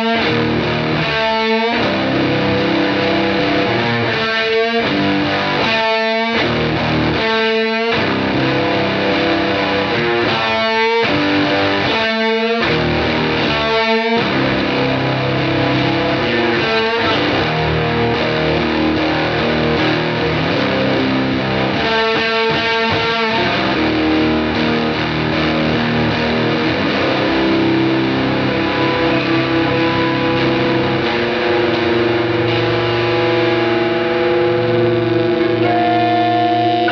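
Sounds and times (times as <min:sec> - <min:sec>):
overdriven electric guitar: 0:00.0 - 0:36.9.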